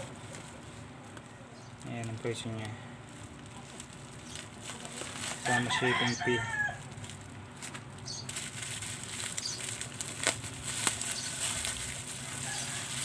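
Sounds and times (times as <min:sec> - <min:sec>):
bubble wrap rustling and crinkling: 0:00.0 - 0:13.0.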